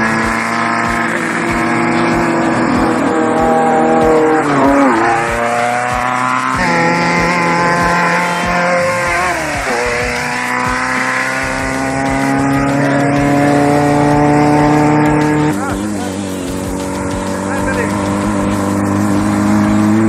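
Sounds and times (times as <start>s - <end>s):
engine accelerating hard: 0.0s - 20.0s.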